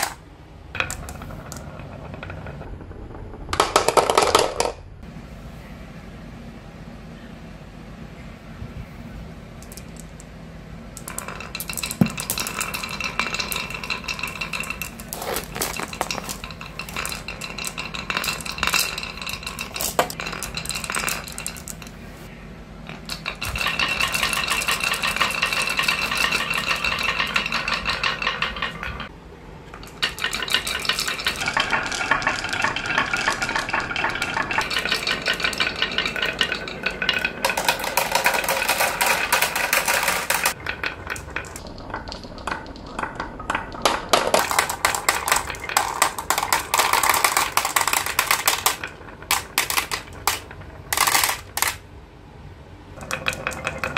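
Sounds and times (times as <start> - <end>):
marbles clattering on wooden run: 0.0 - 2.8, 3.5 - 4.8, 9.6 - 10.3, 11.0 - 22.1, 22.9 - 29.1, 29.7 - 51.8, 53.0 - 53.9.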